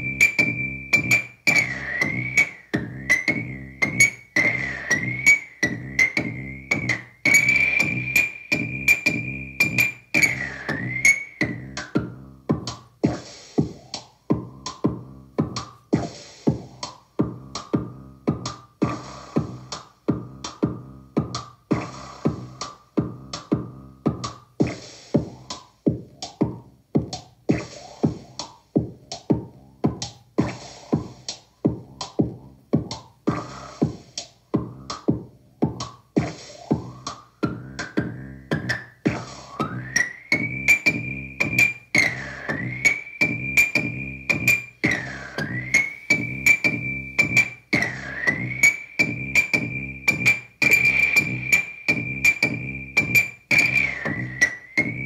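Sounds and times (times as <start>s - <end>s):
drum machine pattern: 0.0s - 55.0s.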